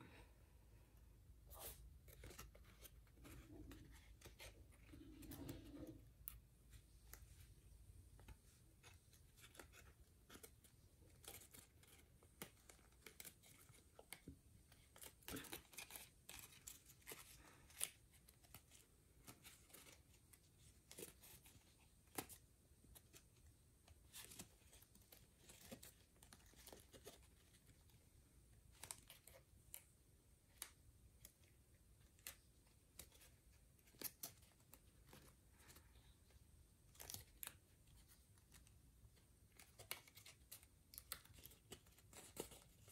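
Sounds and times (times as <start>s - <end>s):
paper crinkling while folded: 1.5s - 42.9s.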